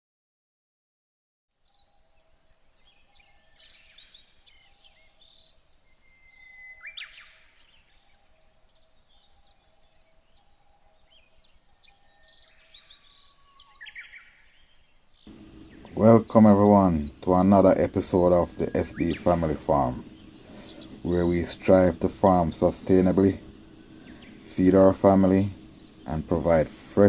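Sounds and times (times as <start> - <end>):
birds chirping and singing: 1.6 - 27.0.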